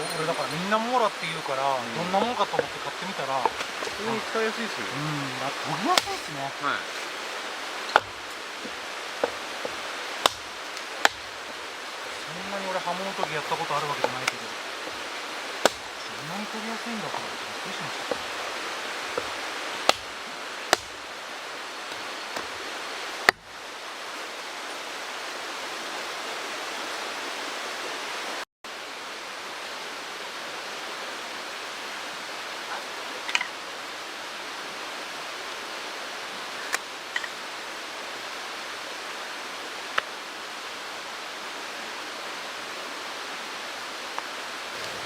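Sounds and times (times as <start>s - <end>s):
stream rushing: 0.0s - 45.0s.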